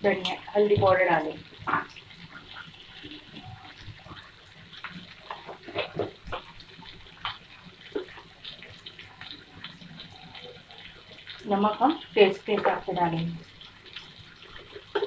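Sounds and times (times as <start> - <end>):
oil popping and crackling: 0.0 - 15.0
vegetables sizzling in oil: 0.0 - 15.0.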